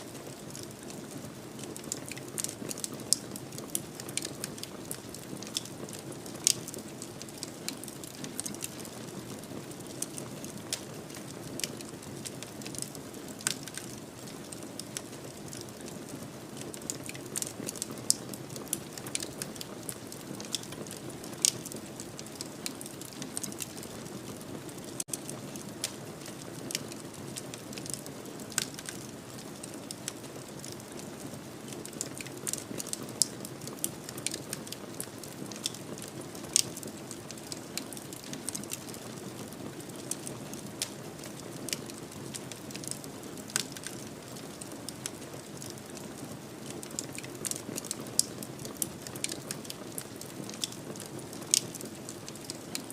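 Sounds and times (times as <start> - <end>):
wood fire popping and snapping: 0.0 - 52.9.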